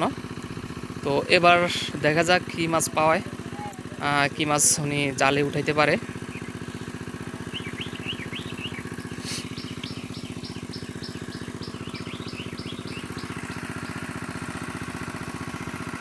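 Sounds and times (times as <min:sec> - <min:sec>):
water pump engine chugging: 0:00.0 - 0:16.0
birds chirping: 0:01.1 - 0:14.3.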